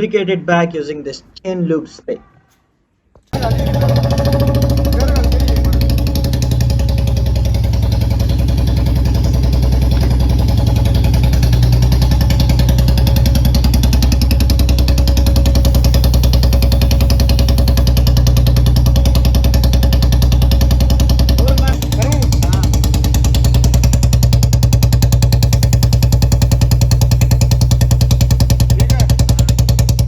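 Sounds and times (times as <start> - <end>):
motorcycle engine thumping: 3.4 - 30.0.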